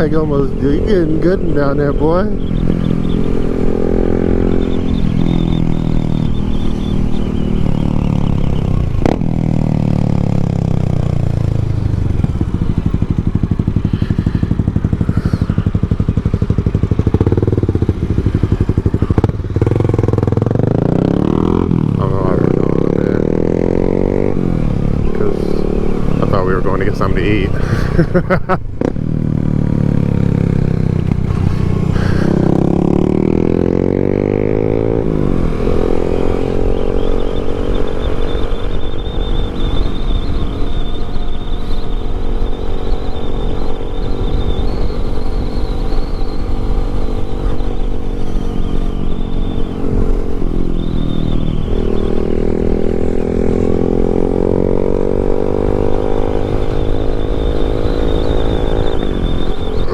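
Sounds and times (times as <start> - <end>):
low wind rumble: 0.0 - 59.9
motorcycle engine running: 0.0 - 59.9.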